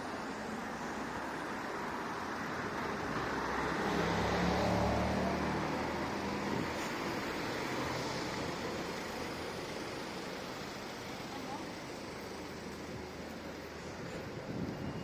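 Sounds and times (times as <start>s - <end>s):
urban traffic noise: 0.0s - 15.0s
vehicle engine hum passing: 2.2s - 15.0s.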